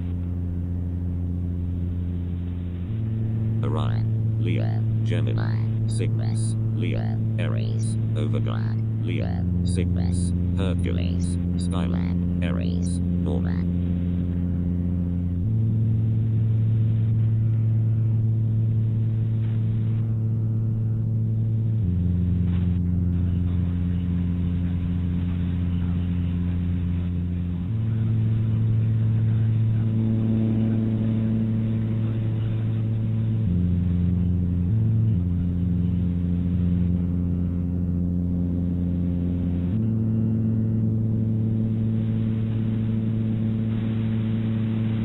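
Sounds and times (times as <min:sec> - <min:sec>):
ambient drone chord: 0:00.0 - 0:45.0.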